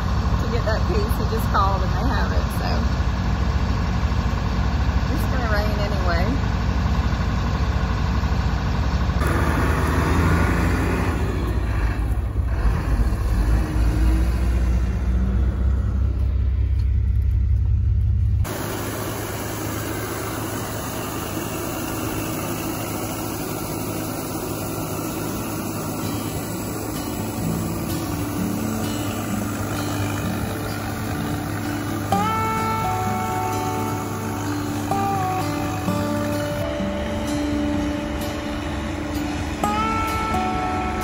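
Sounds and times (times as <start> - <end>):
combine harvester engine rumble: 0.0 - 41.0
grain auger unloading: 0.0 - 41.0.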